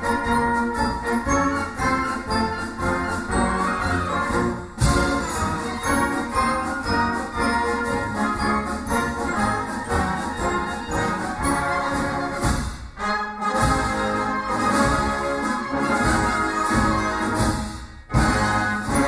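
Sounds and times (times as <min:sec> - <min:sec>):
wind band playing a march: 0:00.0 - 0:19.0.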